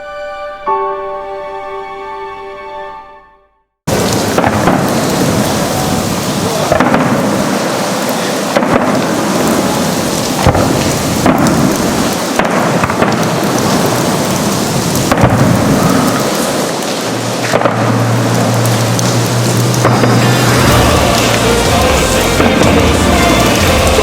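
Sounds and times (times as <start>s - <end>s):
fireworks booming: 3.9s - 24.0s
fireworks crackling: 3.9s - 24.0s.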